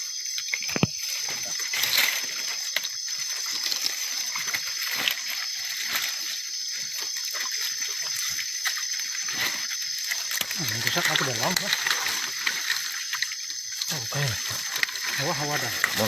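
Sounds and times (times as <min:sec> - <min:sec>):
water splashing and sloshing: 0:00.8 - 0:16.0.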